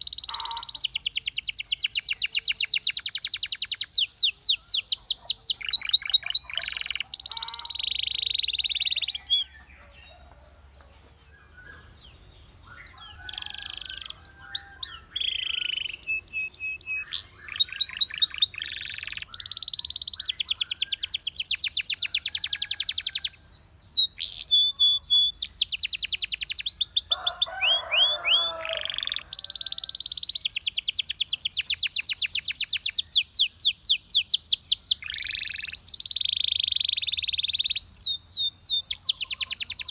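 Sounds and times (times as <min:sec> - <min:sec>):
canary singing trills: 0:00.0 - 0:10.5, 0:11.2 - 0:39.9.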